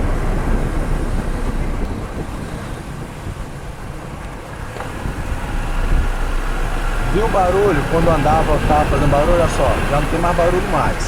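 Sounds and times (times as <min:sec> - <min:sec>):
car road and wheel rumble: 0:00.0 - 0:11.0.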